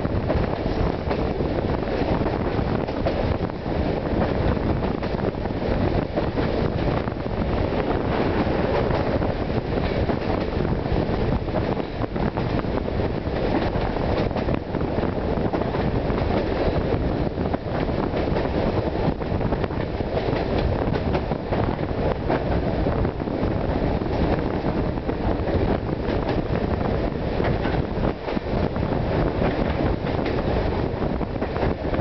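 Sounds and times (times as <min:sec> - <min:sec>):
train wheels rumbling on rails: 0:00.0 - 0:32.0
wind rushing past: 0:00.0 - 0:32.0.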